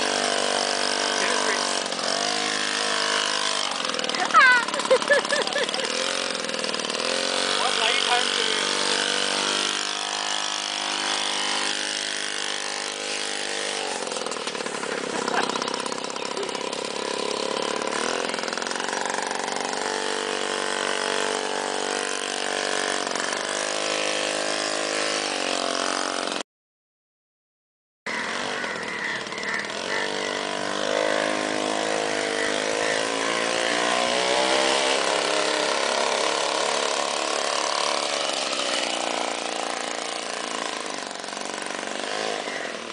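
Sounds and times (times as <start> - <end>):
engine revving: 0.0 - 26.4, 28.1 - 42.9.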